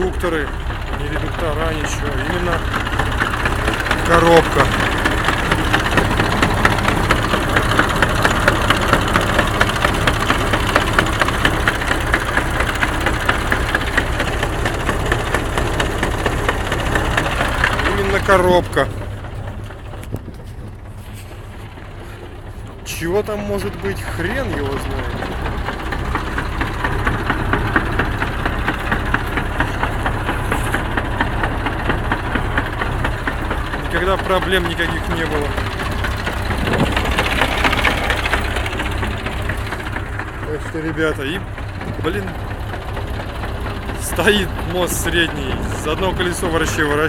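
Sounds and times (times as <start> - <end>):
diesel engine running: 0.0 - 47.0
gearbox knocking rhythmically: 0.0 - 47.0.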